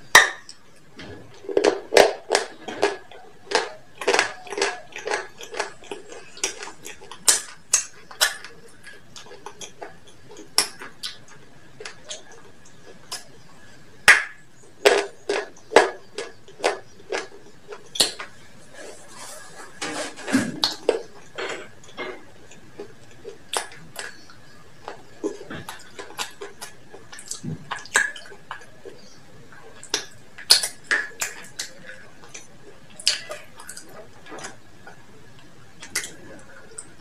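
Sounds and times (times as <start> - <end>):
crisp crunches of chewing: 0.4 - 13.5, 14.8 - 37.0.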